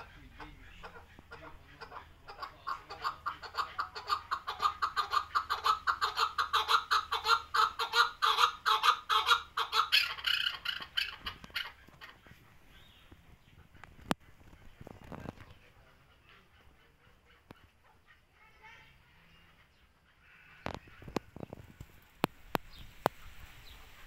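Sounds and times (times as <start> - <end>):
partridge chucking calls: 0.0 - 21.6.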